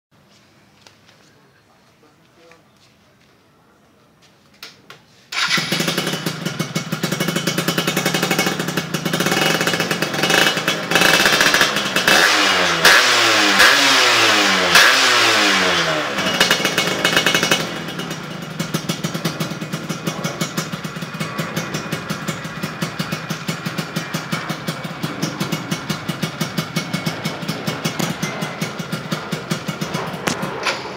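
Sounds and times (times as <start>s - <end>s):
motorcycle engine revving and idling: 5.3s - 30.9s.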